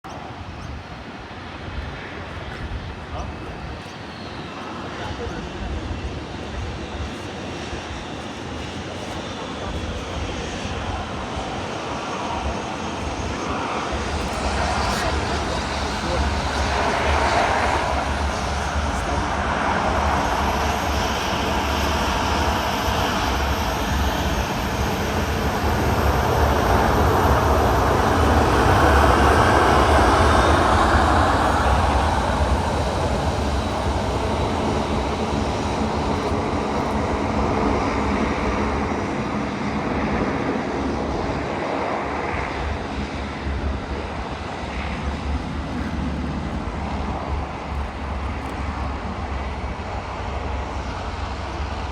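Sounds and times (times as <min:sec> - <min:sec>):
jet engines roaring: 0:00.1 - 0:51.9.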